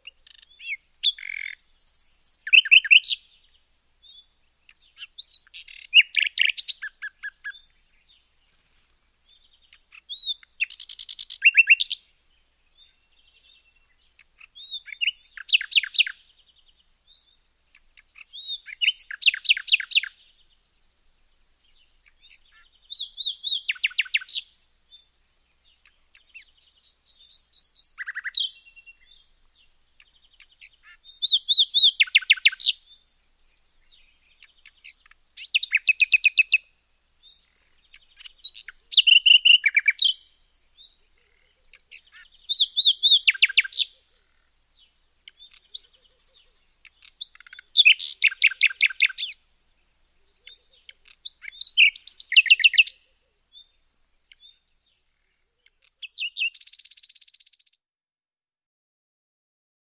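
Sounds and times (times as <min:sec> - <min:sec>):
bird chirps and trills: 0:00.0 - 0:57.8.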